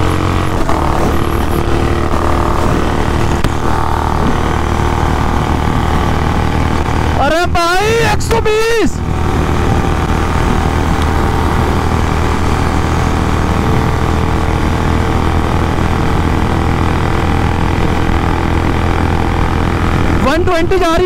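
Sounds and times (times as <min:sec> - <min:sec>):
wind rushing over microphone: 0:00.0 - 0:20.3
motorcycle engine running: 0:00.0 - 0:21.0.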